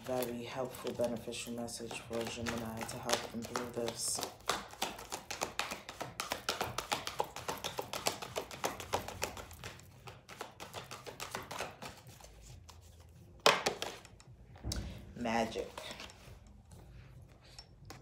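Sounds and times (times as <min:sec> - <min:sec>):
cards being shuffled: 0:00.0 - 0:14.3, 0:15.4 - 0:16.6.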